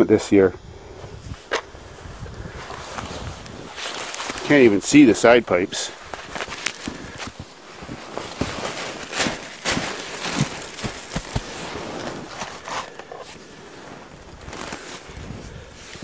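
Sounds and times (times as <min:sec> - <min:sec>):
footsteps crunching in snow: 0:02.1 - 0:16.0.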